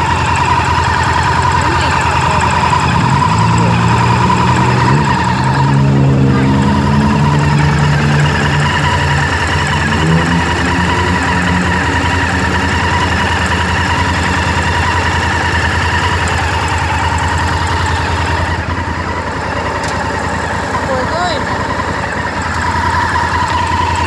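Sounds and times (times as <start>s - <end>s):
motorcycle engine idling: 0.0s - 24.0s
rapid engine ticking: 0.0s - 24.0s.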